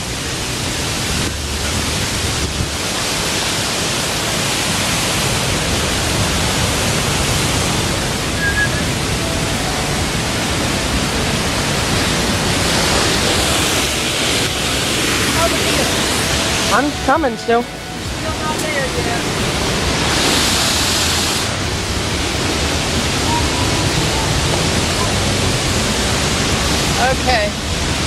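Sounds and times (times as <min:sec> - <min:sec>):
waterfall rushing water: 0:00.0 - 0:28.0.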